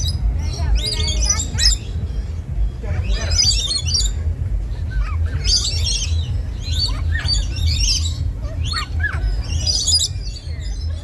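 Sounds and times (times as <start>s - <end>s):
birds chirping and calling: 0.0s - 11.0s
steady low hum: 0.0s - 11.0s.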